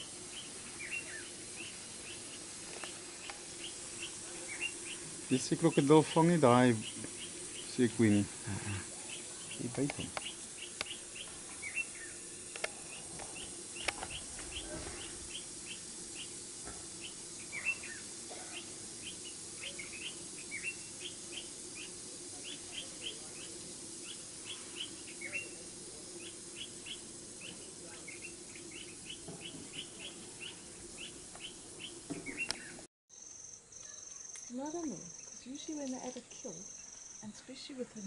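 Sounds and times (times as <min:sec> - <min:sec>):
birds chirping: 0:00.0 - 0:32.9.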